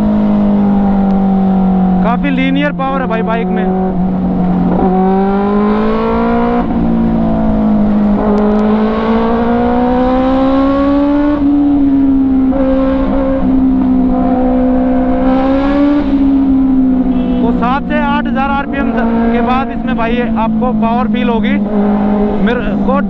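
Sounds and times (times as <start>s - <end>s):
low wind rumble: 0.0s - 23.0s
motorcycle engine accelerating: 0.0s - 23.0s.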